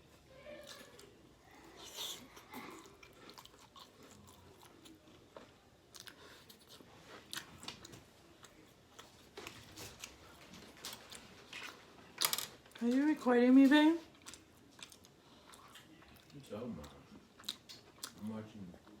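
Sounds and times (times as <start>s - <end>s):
close chewing and mouth sounds: 0.1s - 12.7s, 14.0s - 19.0s.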